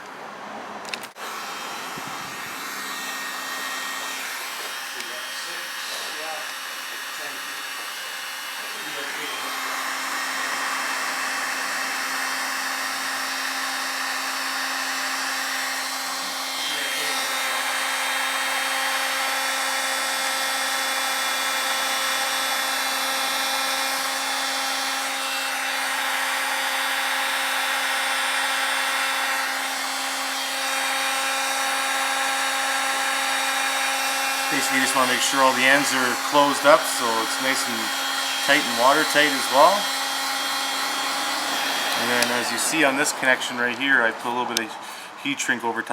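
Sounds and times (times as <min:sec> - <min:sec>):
heat gun blowing with hum: 0:00.8 - 0:45.2.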